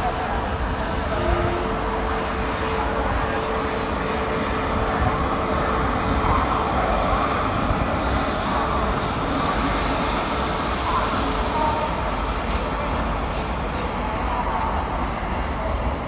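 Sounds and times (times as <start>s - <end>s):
electric locomotive drone: 0.0s - 16.0s
thin steady whine: 0.0s - 16.0s.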